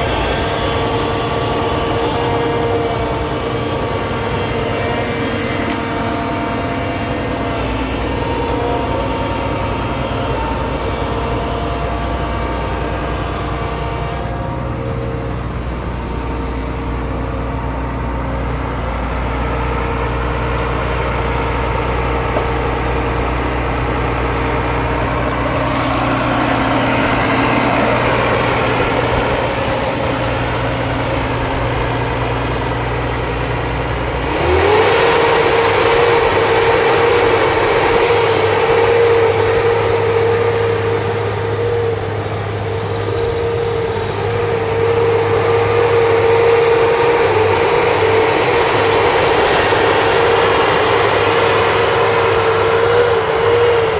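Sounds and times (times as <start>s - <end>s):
diesel engine running: 0.0s - 53.9s
engine whine: 0.0s - 53.9s.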